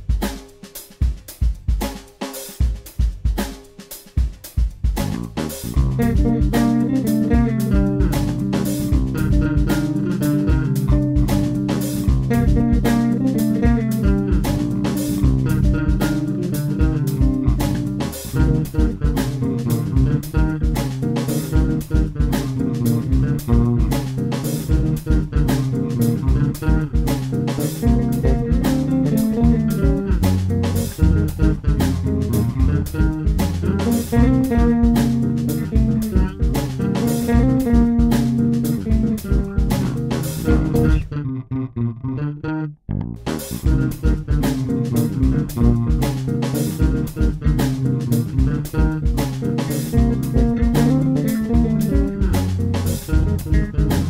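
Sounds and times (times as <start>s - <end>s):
drum kit groove: 0.0s - 41.1s, 43.2s - 54.0s
electric bass lines: 5.0s - 54.0s.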